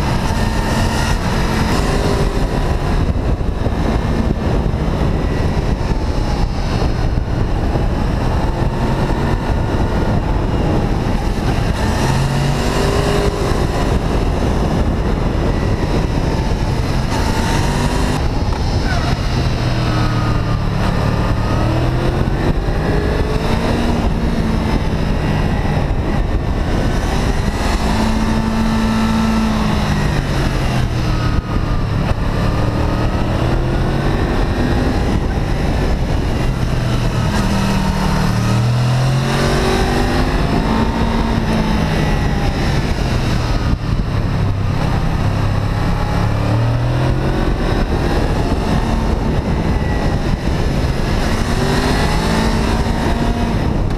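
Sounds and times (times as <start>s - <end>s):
motorcycle engine revving: 0.0s - 53.9s
wind and road noise: 0.0s - 53.9s.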